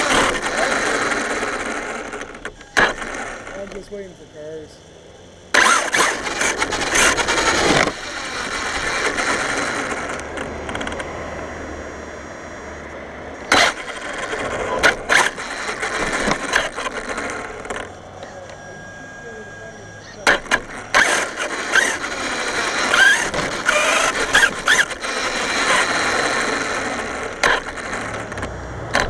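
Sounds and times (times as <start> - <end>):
rc car motor whining: 0.0 - 29.0.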